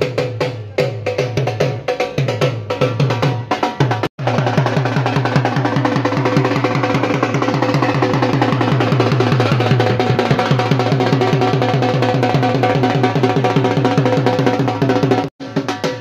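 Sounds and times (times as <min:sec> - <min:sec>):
drum beaten fast: 0:00.0 - 0:16.0.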